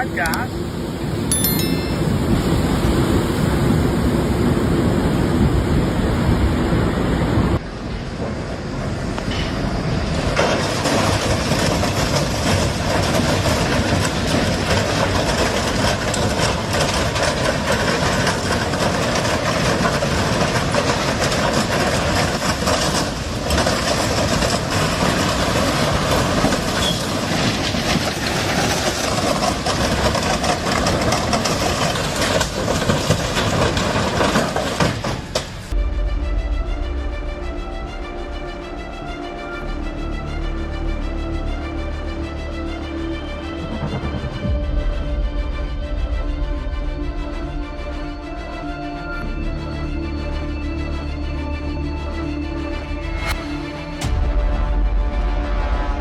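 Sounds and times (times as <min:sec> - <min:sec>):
train rumble and wheel clatter: 0:00.0 - 0:56.0.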